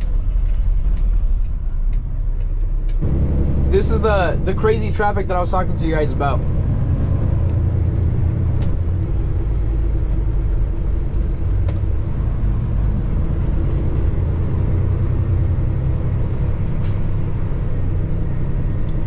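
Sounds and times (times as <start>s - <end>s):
diesel truck engine rumble: 0.0s - 19.0s
road noise: 0.0s - 19.0s.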